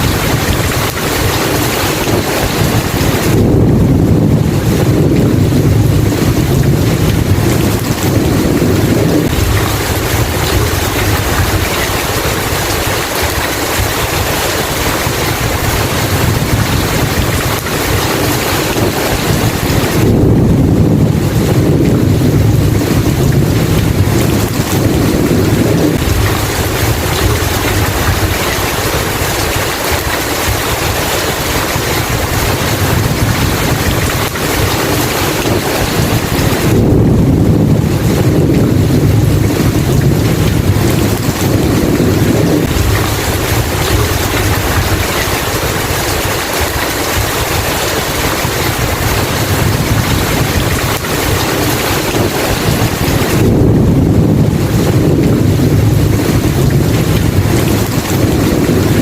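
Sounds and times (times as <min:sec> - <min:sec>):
heavy rain: 0:00.0 - 0:59.0
thunder rumbling: 0:00.0 - 0:59.0.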